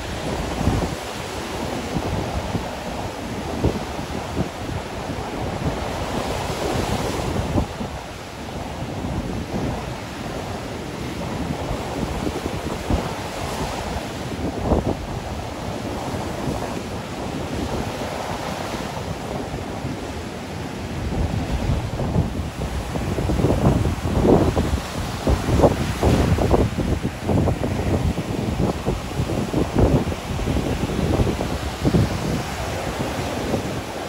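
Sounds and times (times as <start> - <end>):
waves breaking on beach: 0.0 - 34.0
wind buffeting microphone: 0.0 - 34.0.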